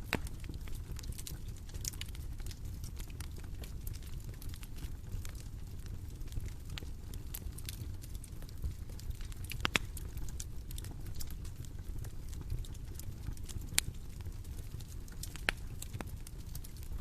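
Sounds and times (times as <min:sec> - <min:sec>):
bonfire crackling: 0:00.0 - 0:17.0
burning wood popping: 0:00.0 - 0:17.0
low rumble of flames: 0:00.0 - 0:17.0.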